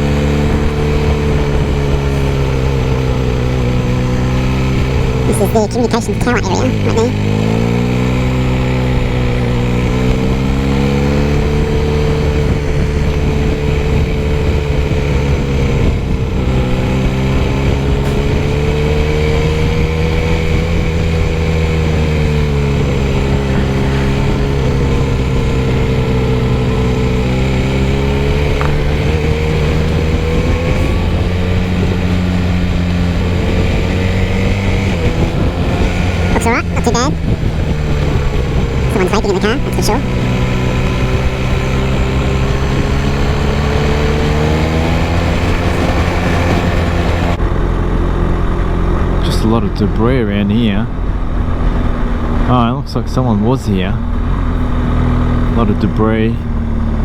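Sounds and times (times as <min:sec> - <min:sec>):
motorcycle engine revving: 0:00.0 - 0:05.3, 0:06.4 - 0:57.0.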